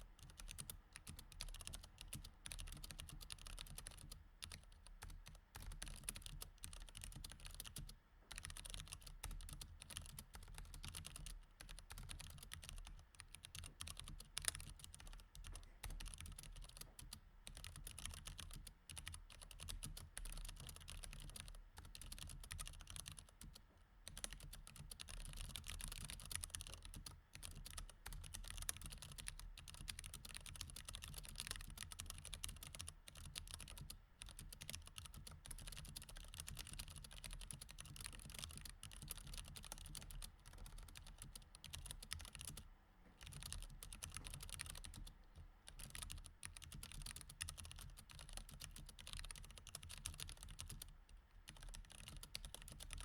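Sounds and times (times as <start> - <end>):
typing on a mechanical keyboard: 0.2 - 53.0.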